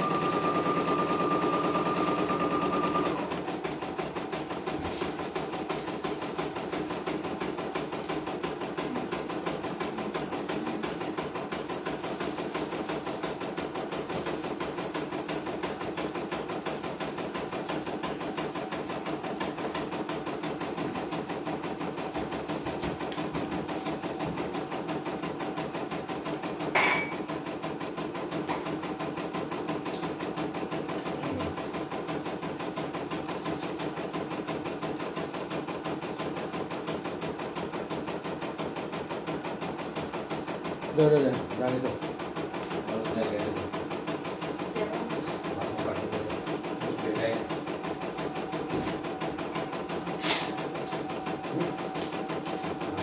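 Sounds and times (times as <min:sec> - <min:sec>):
embroidery machine stitching: 0:00.0 - 0:53.0.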